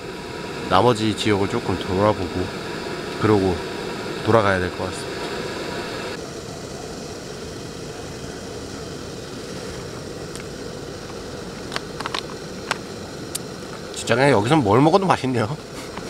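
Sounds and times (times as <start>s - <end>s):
higher hiss: 0.0s - 16.0s
low rushing noise: 0.0s - 16.0s.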